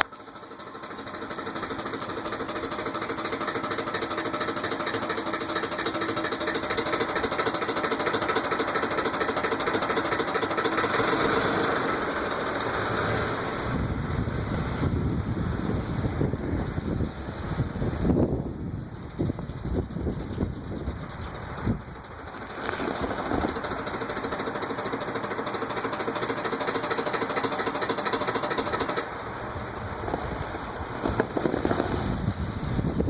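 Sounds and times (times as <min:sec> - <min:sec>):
engine running with fast knock: 0:00.0 - 0:33.0
deeper rumble: 0:00.4 - 0:33.0.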